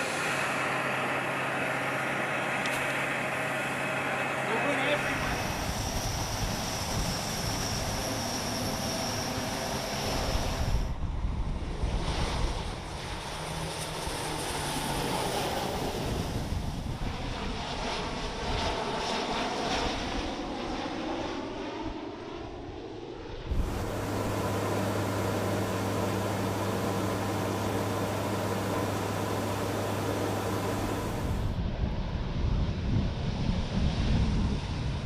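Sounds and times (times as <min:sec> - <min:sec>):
aircraft engines whining: 0:00.0 - 0:35.0.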